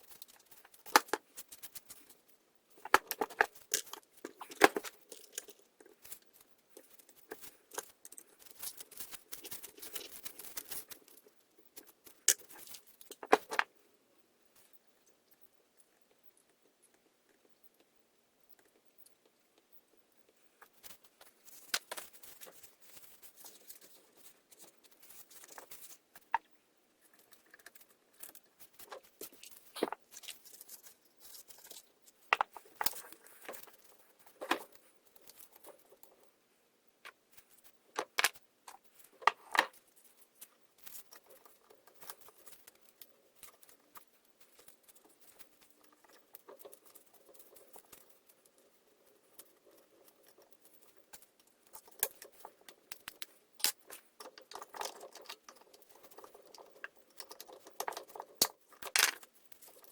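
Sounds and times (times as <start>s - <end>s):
small parts clicking and tapping: 0.0s - 13.8s, 14.6s - 36.4s, 37.0s - 59.9s.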